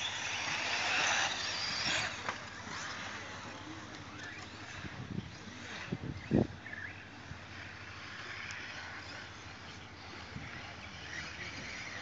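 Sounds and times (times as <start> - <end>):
rc cars high rushing noise: 0.0 - 12.0.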